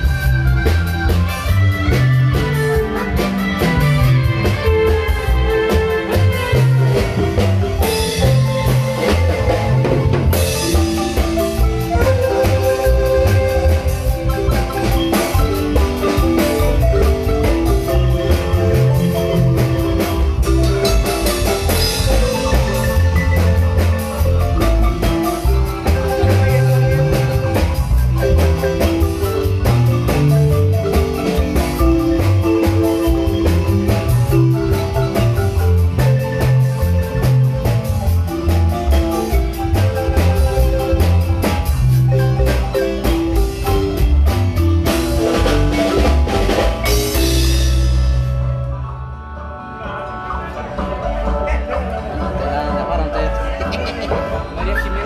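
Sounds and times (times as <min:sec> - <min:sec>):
wooden marimba playing lively tune: 0:00.0 - 0:55.0.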